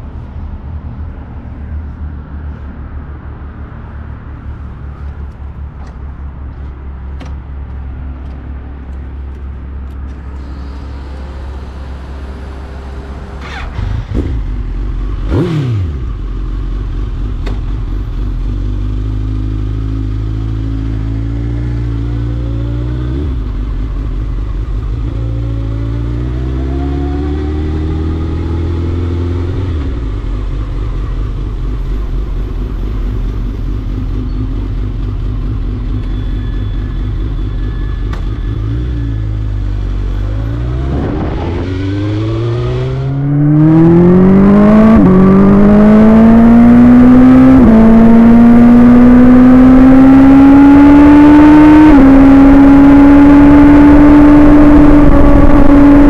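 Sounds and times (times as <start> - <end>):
motorcycle engine accelerating: 10.4 - 56.0.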